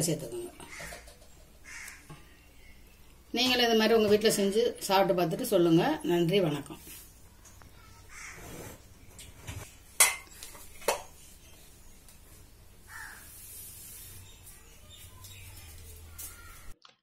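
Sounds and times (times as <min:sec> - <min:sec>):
faint room noise: 0:00.0 - 0:16.8.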